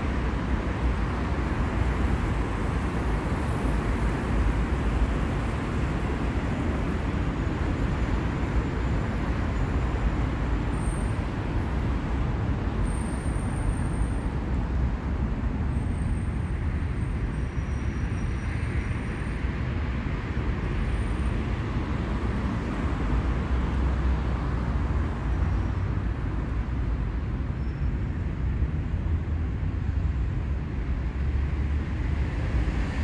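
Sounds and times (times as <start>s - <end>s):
passing vehicles: 0.0s - 33.0s.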